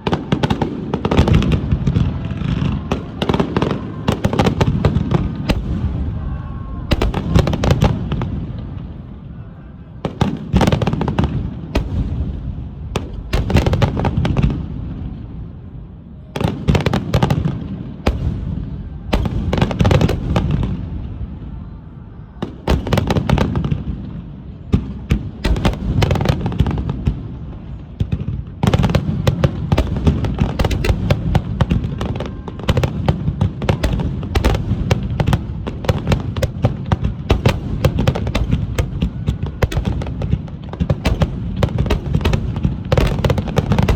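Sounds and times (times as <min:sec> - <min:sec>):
fireworks bursts and crackling: 0:00.0 - 0:43.9.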